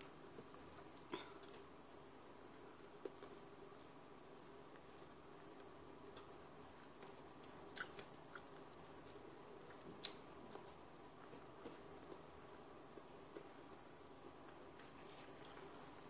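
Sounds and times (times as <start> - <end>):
person chewing soft food: 0.0 - 16.0.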